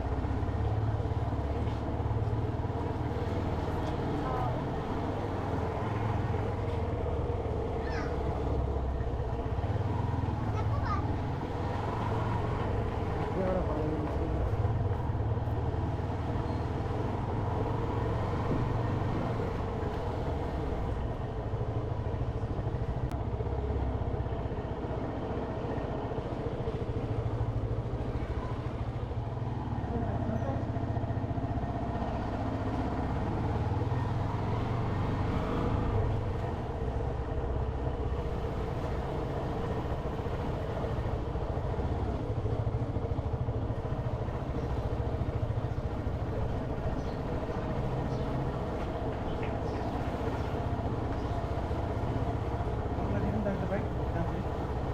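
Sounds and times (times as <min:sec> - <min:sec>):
motorcycle running: 0:00.0 - 0:54.9.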